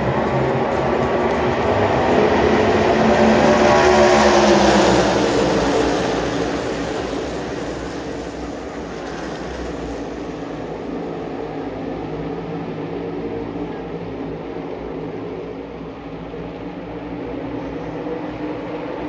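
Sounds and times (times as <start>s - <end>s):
race cars passing at high revs: 0.0s - 19.0s.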